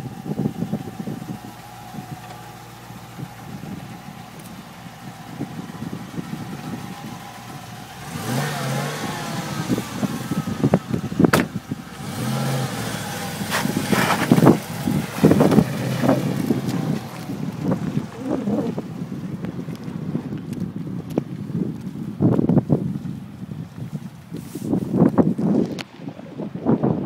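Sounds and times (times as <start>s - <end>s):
car engine idling and revving: 0.0s - 26.4s.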